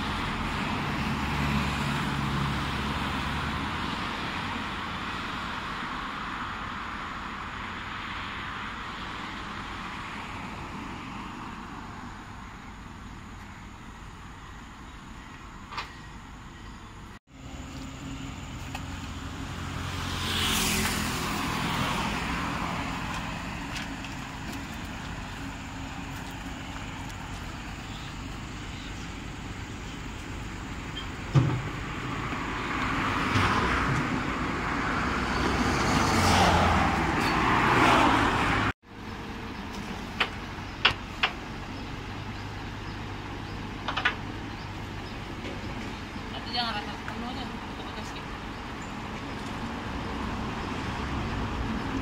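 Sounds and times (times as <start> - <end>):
vehicles passing by: 0.0 - 52.0
low engine hum: 8.8 - 52.0.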